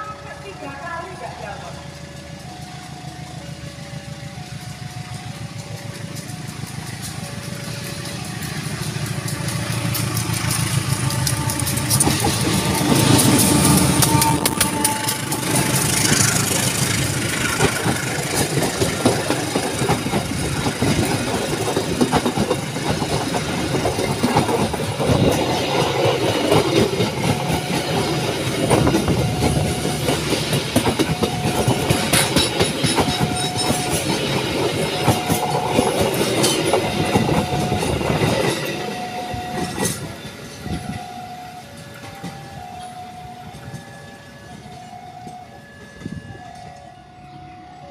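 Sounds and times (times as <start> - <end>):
level crossing alarm beeping: 0.0 - 47.9
train wheels clattering: 0.4 - 46.9.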